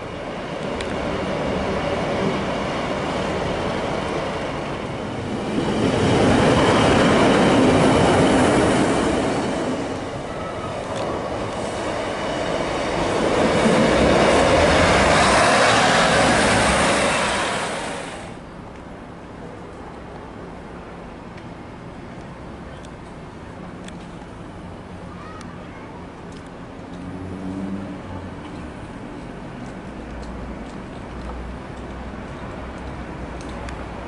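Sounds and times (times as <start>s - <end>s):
diesel trains passing: 0.0s - 25.1s, 26.0s - 34.0s.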